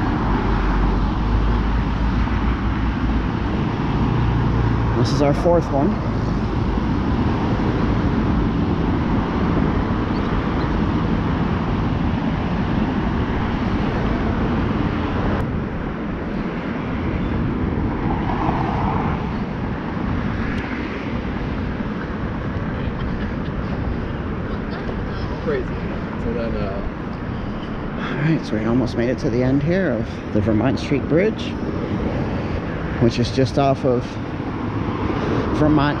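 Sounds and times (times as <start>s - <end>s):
passing cars: 0.0s - 36.0s.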